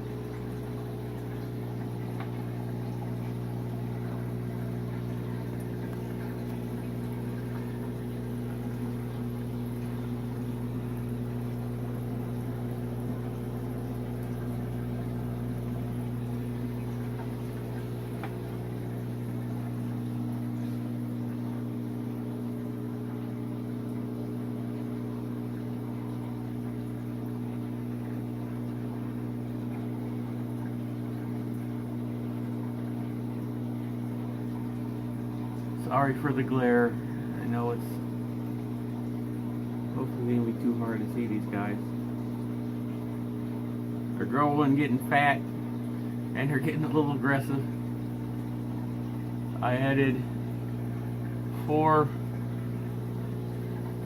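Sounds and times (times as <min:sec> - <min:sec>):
aquarium pumps humming: 0:00.0 - 0:54.0.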